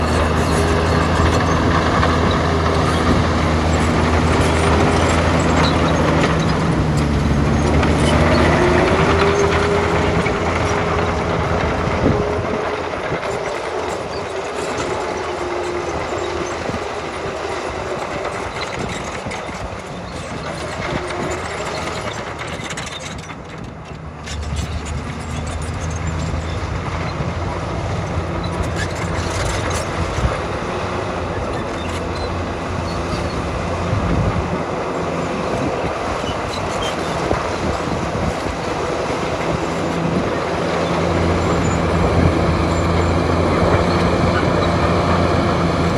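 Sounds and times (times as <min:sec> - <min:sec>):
bulldozer diesel engine working: 0:00.0 - 0:45.9
clanking tracks: 0:00.0 - 0:45.9.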